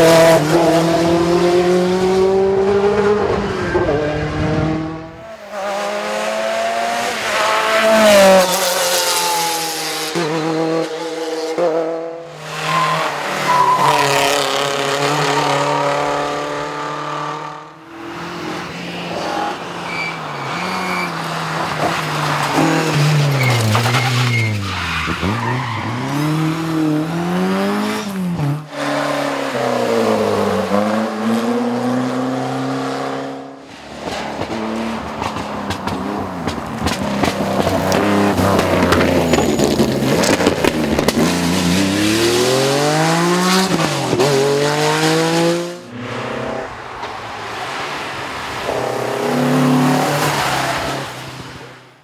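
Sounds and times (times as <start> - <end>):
rally car engines revving: 0.0 - 51.8.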